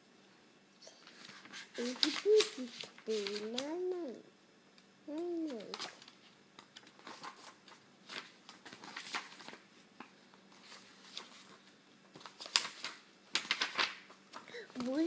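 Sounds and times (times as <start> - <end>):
scratching and rustling handling: 0.8 - 4.2, 5.1 - 15.0.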